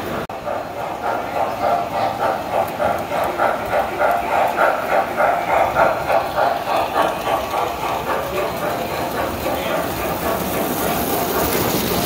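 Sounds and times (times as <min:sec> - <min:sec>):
rhythmic track clicking: 0:00.3 - 0:12.0
toy train wheels and motor: 0:00.4 - 0:12.0.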